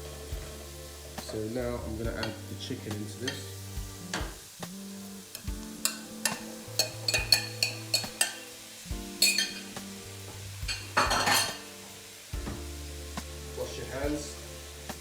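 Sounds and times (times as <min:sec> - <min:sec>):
food sizzling in oil: 0:00.0 - 0:15.0
utensil scraping a pan: 0:00.0 - 0:15.0.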